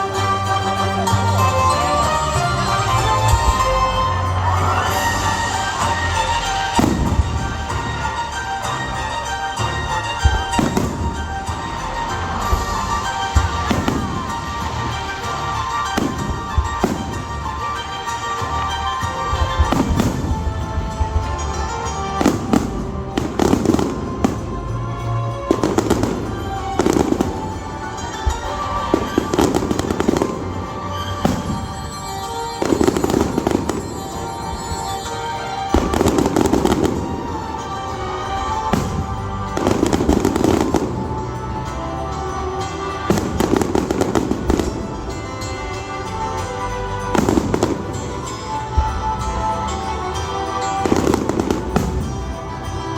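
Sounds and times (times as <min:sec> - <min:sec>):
fireworks bursting: 0:00.0 - 0:52.9
music playing: 0:00.0 - 0:52.9.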